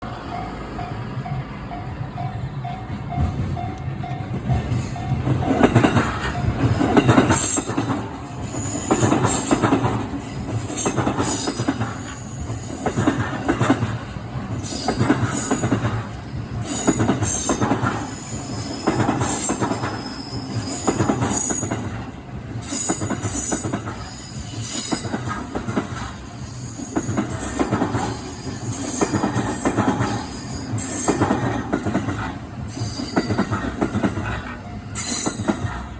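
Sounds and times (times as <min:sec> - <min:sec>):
train wheels rumbling and squealing: 0:00.0 - 0:35.9.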